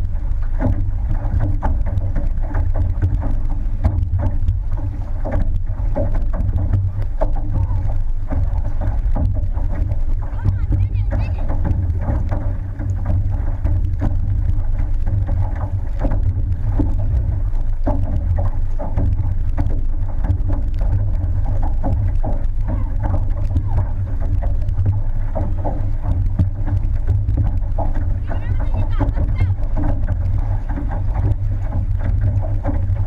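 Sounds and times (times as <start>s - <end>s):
low rumble of water and wind: 0.0s - 33.0s
paddle splashes: 0.0s - 33.0s.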